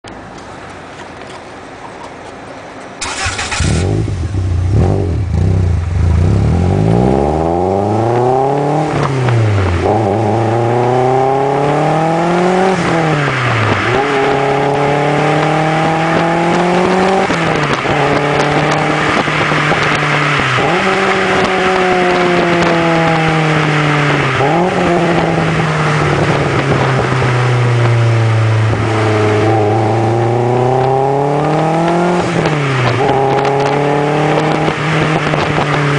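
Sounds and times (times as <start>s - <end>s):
car engine revving: 3.0s - 35.9s.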